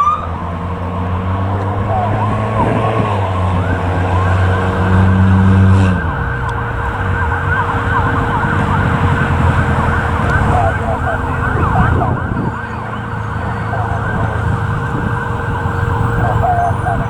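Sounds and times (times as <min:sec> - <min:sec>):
deep steady tone: 0:00.0 - 0:17.0
fire truck siren yelping: 0:00.0 - 0:17.0.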